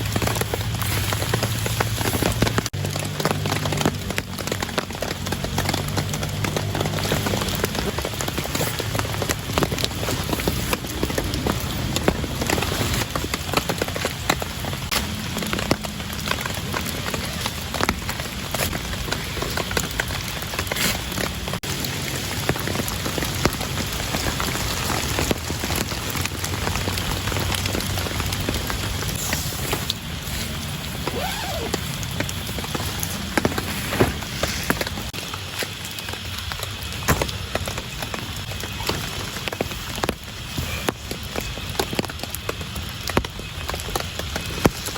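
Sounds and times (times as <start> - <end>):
raindrops ticking close by: 0.0 - 44.9
steady rain falling: 0.0 - 44.9.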